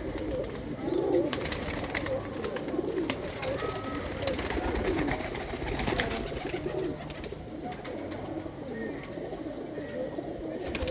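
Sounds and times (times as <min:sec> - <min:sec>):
pigeons cooing: 0:00.0 - 0:10.9.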